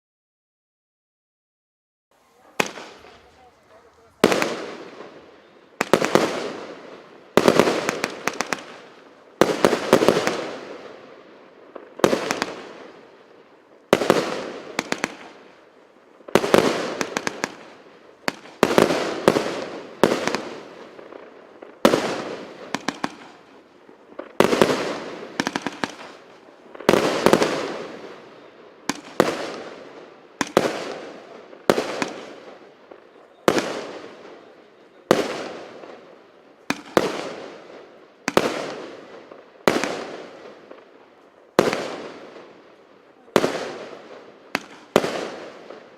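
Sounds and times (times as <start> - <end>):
firework crackling: 2.1 - 45.9
firework bangs: 2.2 - 45.9.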